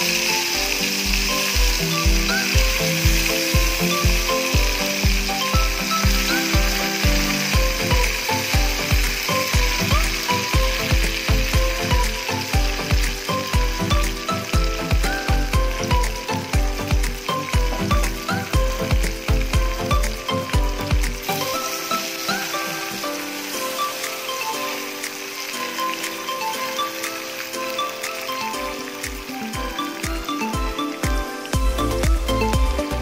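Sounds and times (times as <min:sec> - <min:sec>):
music with fast drum beat: 0:00.0 - 0:25.2, 0:28.8 - 0:33.0
fish sizzling in oil: 0:00.0 - 0:33.0.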